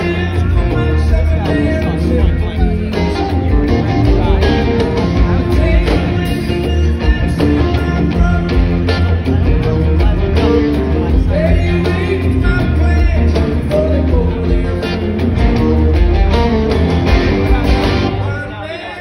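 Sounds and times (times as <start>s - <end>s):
low bass line: 0.0s - 18.7s
electric guitar: 0.0s - 19.0s
live rock band: 0.0s - 19.0s
man singing: 0.0s - 19.0s.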